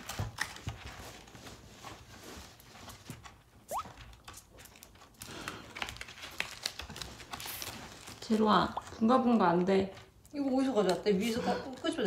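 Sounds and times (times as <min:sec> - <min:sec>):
dog paws pattering and scrabbling: 0:00.0 - 0:12.0.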